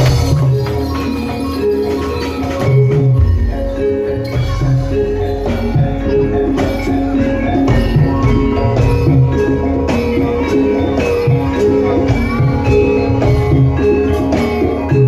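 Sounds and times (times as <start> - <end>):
gamelan metallophones ringing melody: 0.0 - 15.0.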